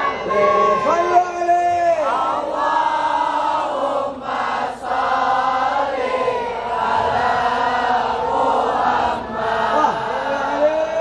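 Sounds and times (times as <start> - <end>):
crowd of men chanting: 0.0 - 11.0.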